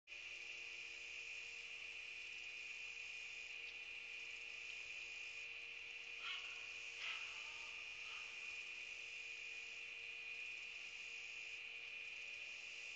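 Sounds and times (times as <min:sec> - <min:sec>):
insects trilling: 0:00.1 - 0:12.9.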